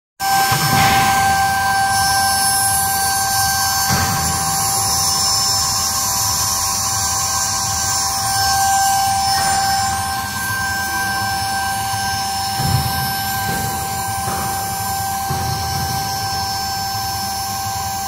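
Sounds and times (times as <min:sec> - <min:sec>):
drill spindle whine: 0:00.2 - 0:18.0.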